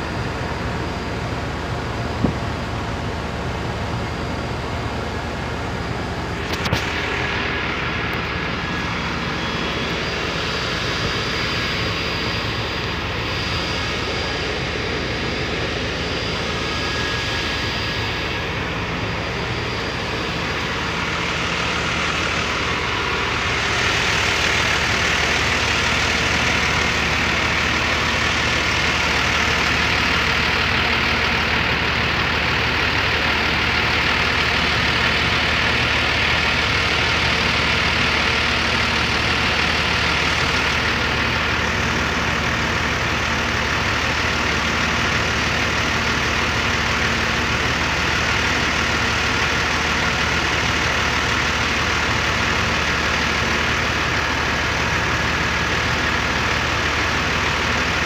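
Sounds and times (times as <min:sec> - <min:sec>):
broad rushing noise: 0:00.0 - 0:58.0
engine humming: 0:00.0 - 0:58.0.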